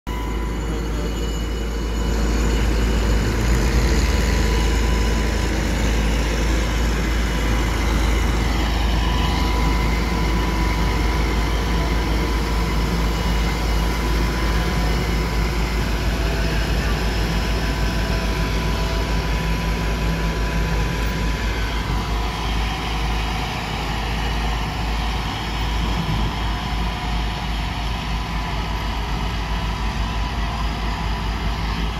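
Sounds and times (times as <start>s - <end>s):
diesel engine droning under load: 0.1s - 31.9s
thin steady whine: 0.1s - 31.9s.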